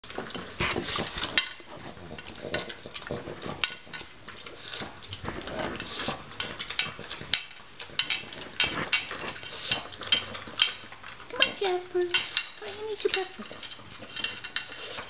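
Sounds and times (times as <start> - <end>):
dog eating from metal bowl: 0.0 - 15.0.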